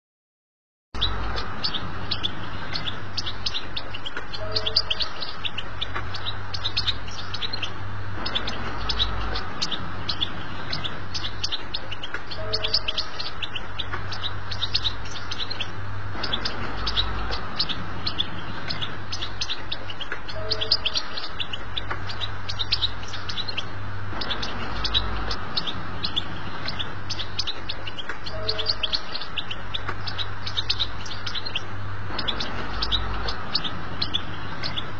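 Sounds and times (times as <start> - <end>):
goldfinch twittering song: 1.0 - 34.9
low steady hum: 1.0 - 34.9.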